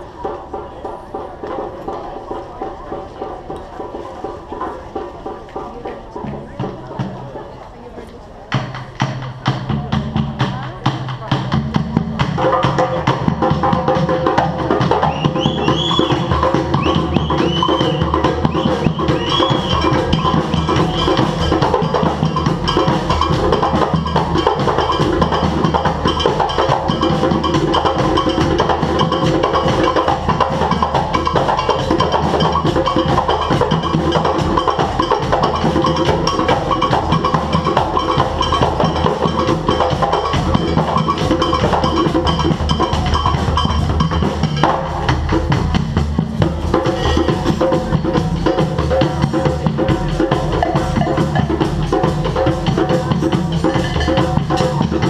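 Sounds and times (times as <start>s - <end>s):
band drumming: 0.0s - 7.6s, 8.5s - 55.0s.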